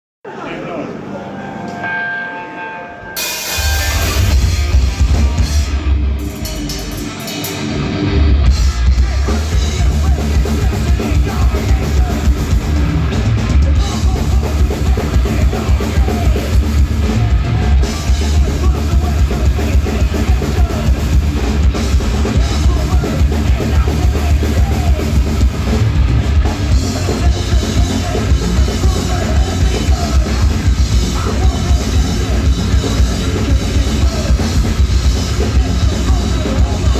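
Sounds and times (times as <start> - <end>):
distorted electric guitars: 0.9 - 36.9
fast drumming with heavy bass drum: 3.2 - 36.9.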